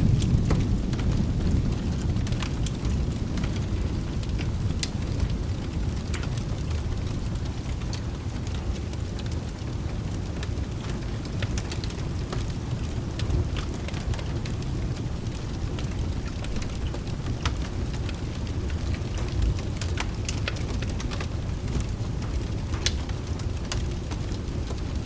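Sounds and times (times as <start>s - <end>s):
rain: 0.0s - 25.0s
wood fire crackling: 0.0s - 25.0s.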